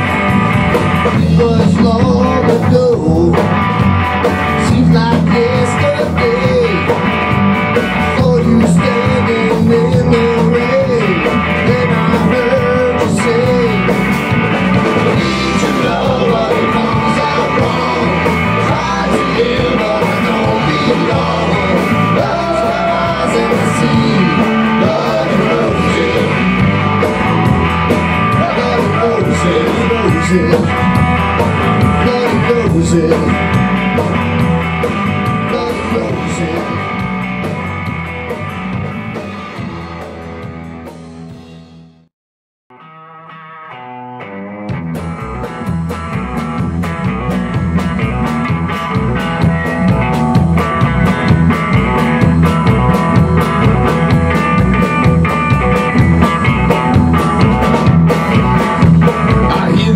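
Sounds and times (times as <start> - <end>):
rock band playing live: 0.0 - 42.1, 42.7 - 59.9.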